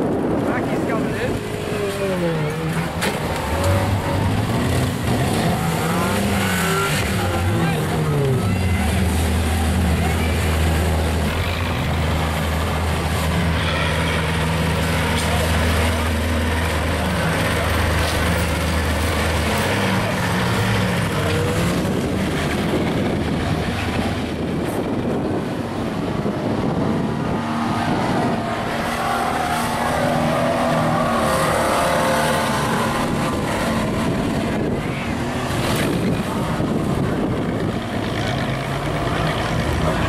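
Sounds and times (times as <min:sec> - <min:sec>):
car engines revving: 0:00.0 - 0:40.0.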